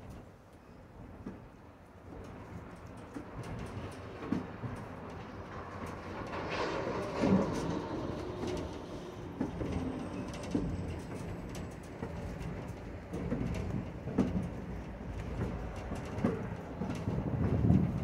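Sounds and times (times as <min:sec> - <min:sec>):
train wheels rumbling on track: 0:01.0 - 0:18.0.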